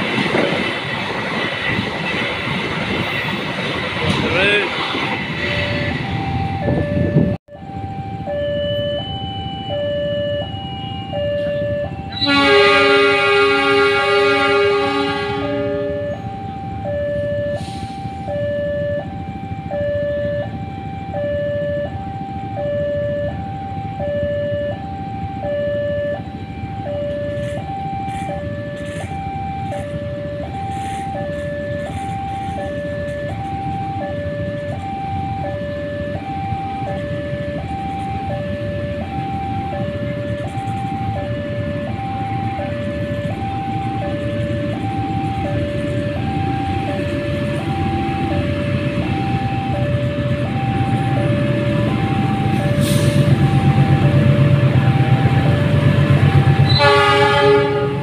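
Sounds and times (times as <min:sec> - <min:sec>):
train rumble: 0:00.0 - 0:58.0
two-tone railway warning alarm: 0:00.0 - 0:58.0.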